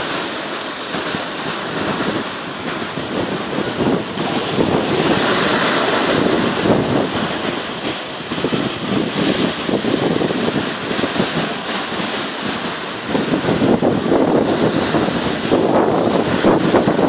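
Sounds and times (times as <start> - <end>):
churning wake and breaking water: 0.0 - 17.0
wind buffeting microphone: 0.9 - 17.0.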